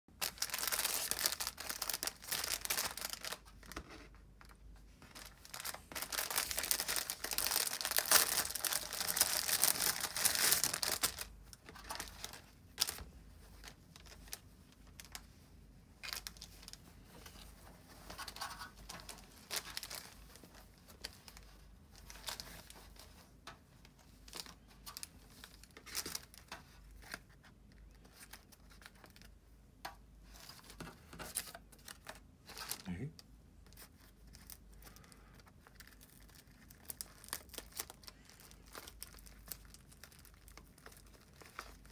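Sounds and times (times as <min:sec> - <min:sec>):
plastic wrapping crinkling and tearing: 0:00.1 - 0:15.2, 0:16.0 - 0:29.4, 0:30.3 - 0:41.9
plastic and cloth rustling: 0:00.1 - 0:29.4, 0:33.6 - 0:41.9.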